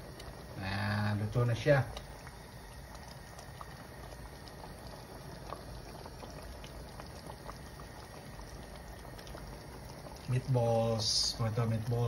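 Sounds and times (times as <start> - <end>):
sauce bubbling: 0.0 - 12.0.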